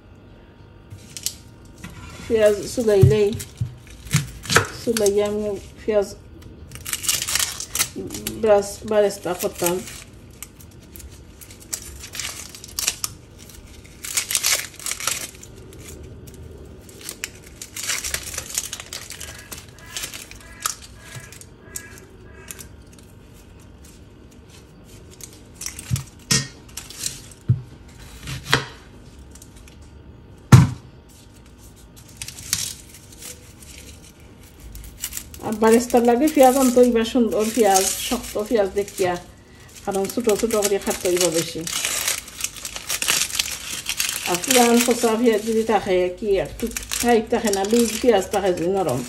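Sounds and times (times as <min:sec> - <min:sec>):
onion skins crinkling and tearing: 0:00.8 - 0:49.0.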